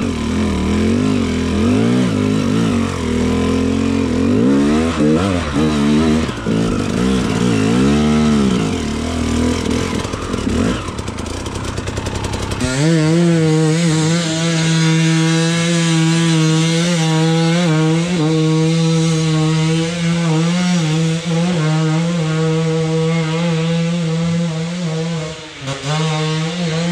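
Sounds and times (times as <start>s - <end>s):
two-stroke motorcycle engine revving: 0.0s - 26.9s.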